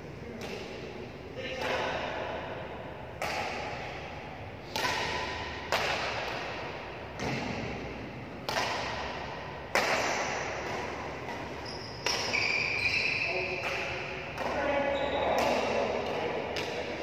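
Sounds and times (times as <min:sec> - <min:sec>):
rackets hitting shuttlecock: 0:00.3 - 0:17.0.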